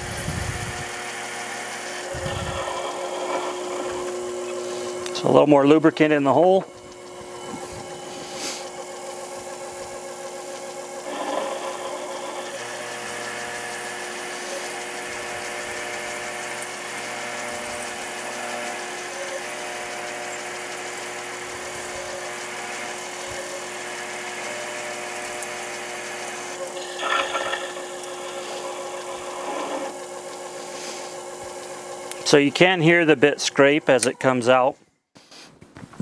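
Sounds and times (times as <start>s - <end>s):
drill bit cutting aluminium: 0.0s - 34.7s
lathe motor running: 0.0s - 34.8s.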